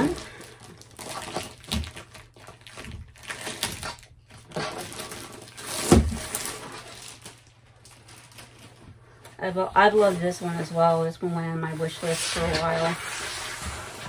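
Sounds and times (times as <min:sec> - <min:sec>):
canvas and paper rustling: 0:00.0 - 0:14.0.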